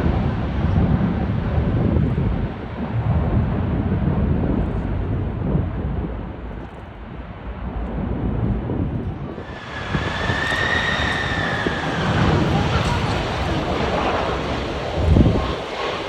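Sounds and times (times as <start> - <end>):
jet airliner engine whine: 0.0 - 16.0
wind buffeting microphone: 0.0 - 16.0.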